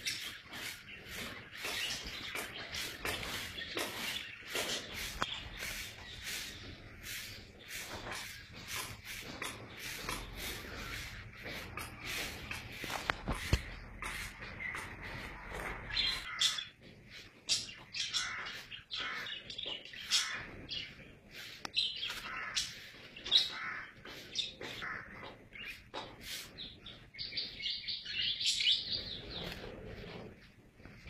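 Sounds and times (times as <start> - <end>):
high chirping calls: 0.0 - 29.9.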